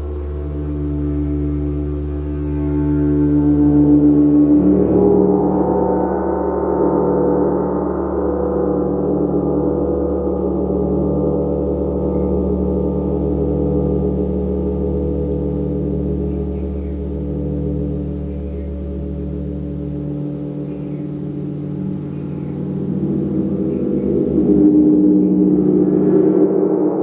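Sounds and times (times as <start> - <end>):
gong ringing: 0.0 - 27.0.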